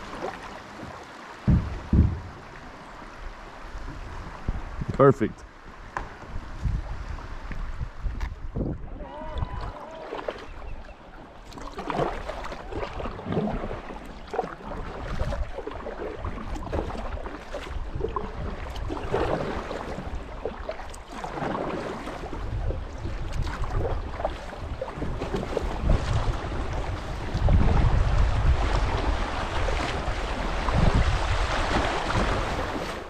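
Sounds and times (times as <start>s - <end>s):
paddle strokes splashing water: 0.0s - 4.8s, 5.6s - 33.0s
water rippling: 0.0s - 33.0s
wind rumble on microphone: 1.4s - 9.8s, 14.6s - 33.0s.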